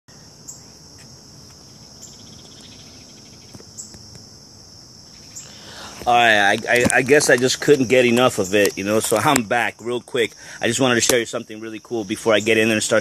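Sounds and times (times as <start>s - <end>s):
insects chirring: 0.1s - 13.0s.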